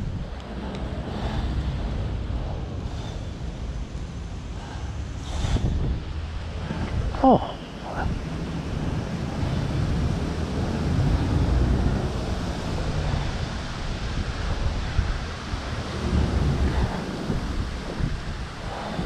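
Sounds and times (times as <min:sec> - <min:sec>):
wheelchair drive and tyres: 0:00.0 - 0:19.0
wind buffeting microphone: 0:00.0 - 0:19.0.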